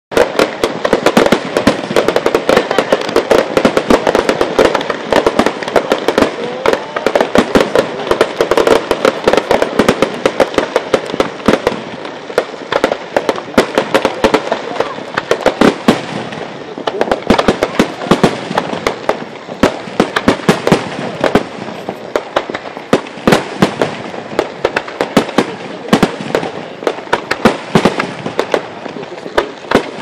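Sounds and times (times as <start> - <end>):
fireworks bangs and crackles: 0.1 - 30.0.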